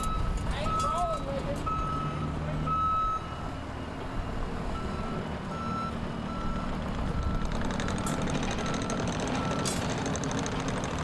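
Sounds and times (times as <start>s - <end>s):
reversing alarm beeping: 0.0s - 10.0s
diesel engine running: 0.0s - 11.0s.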